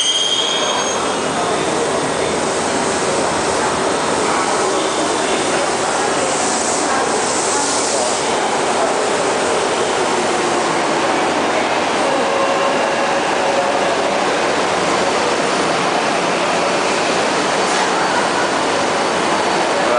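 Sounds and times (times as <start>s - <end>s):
subway train running past: 0.0s - 19.9s.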